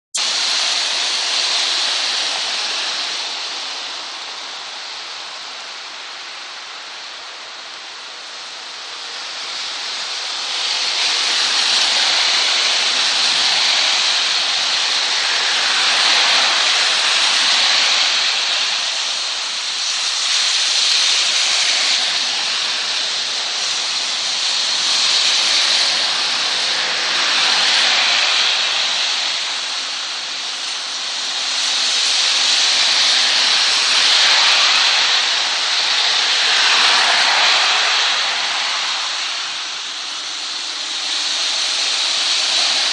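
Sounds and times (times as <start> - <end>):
heavy rain on a street: 0.1 - 42.9
car tyres spraying through water: 0.2 - 7.0, 7.7 - 42.9.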